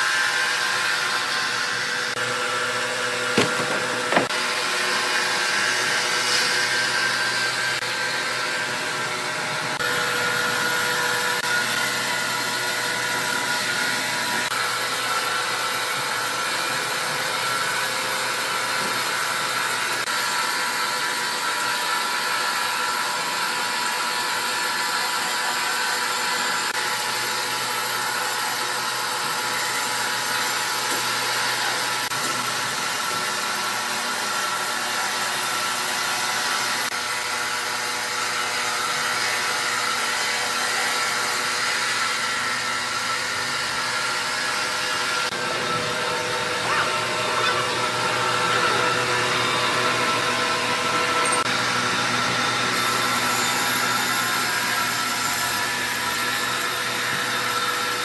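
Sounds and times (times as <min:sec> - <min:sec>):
band saw cutting a log: 0:00.0 - 0:58.0.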